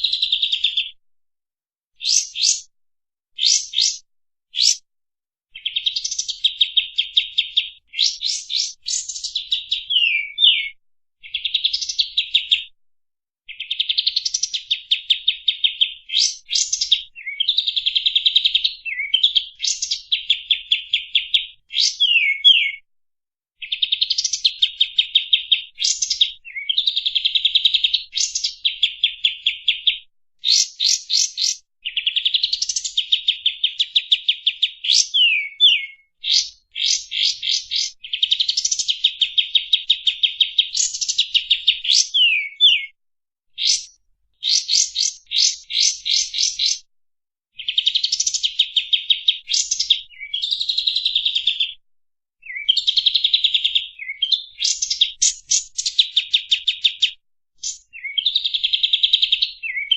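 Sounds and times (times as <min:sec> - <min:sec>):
songbird singing trills and whistles: 0:00.0 - 0:01.0, 0:02.0 - 0:02.7, 0:03.4 - 0:04.8, 0:05.6 - 0:12.7, 0:13.5 - 0:22.8, 0:23.6 - 0:43.0, 0:43.6 - 0:46.9, 0:47.6 - 0:51.8, 0:52.4 - 0:59.9.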